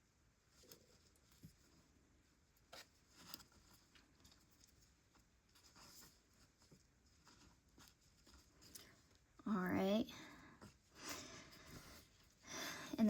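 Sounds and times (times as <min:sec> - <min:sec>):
yarn rustling: 0:00.4 - 0:13.0.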